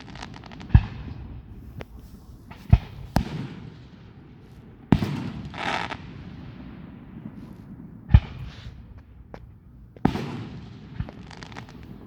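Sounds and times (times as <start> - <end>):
loud firework bangs: 0.0 - 12.0.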